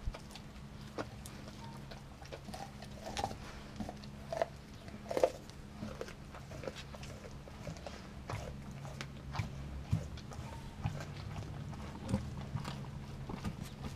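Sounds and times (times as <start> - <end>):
dog gnawing frozen meat and bone: 0.0 - 13.9.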